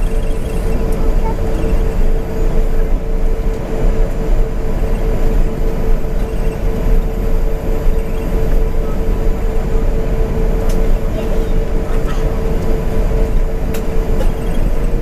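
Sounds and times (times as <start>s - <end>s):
aircraft cabin rumble: 0.0s - 15.0s
steady hum: 0.0s - 15.0s.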